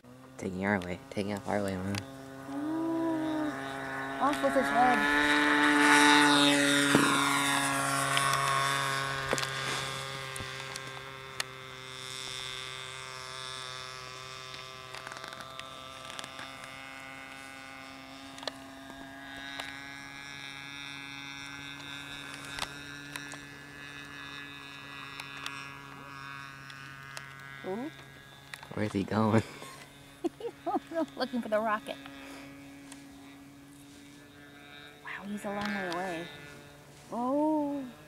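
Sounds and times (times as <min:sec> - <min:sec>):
model airplane motor buzzing: 0:00.0 - 0:38.0.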